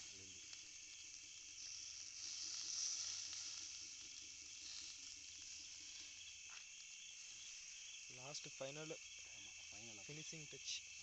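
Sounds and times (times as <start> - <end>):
fish sizzling on hot stone: 0.0 - 11.0.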